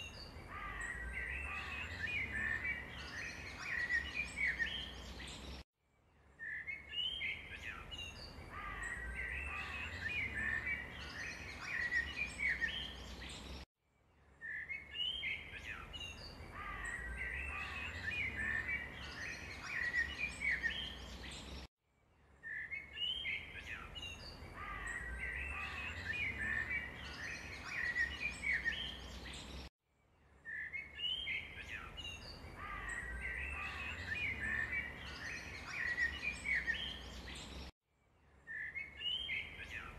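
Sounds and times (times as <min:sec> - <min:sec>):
small birds chirping: 0:00.0 - 0:05.6, 0:06.3 - 0:13.7, 0:14.3 - 0:21.7, 0:22.4 - 0:29.7, 0:30.4 - 0:37.7, 0:38.4 - 0:39.9.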